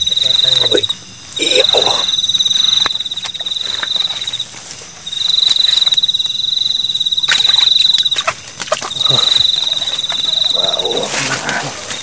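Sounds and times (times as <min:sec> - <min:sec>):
night animal pulsing trill: 0:00.0 - 0:04.5, 0:05.1 - 0:12.0.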